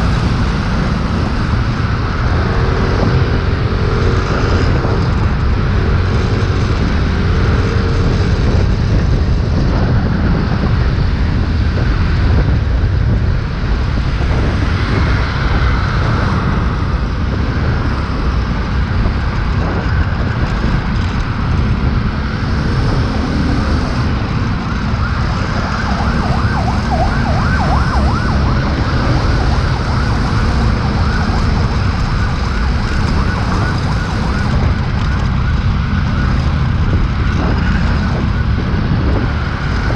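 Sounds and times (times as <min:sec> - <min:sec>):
road and traffic noise: 0:00.0 - 0:39.9
wind rushing over microphone: 0:00.0 - 0:39.9.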